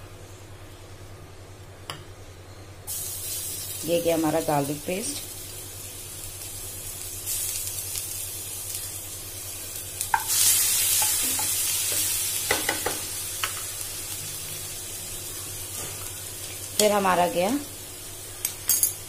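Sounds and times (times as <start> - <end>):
garlic sizzling in hot oil: 2.9 - 19.0.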